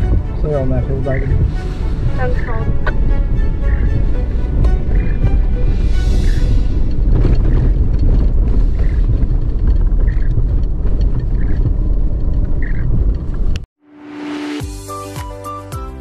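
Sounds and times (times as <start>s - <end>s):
off-road vehicle rumbling: 0.0s - 13.7s.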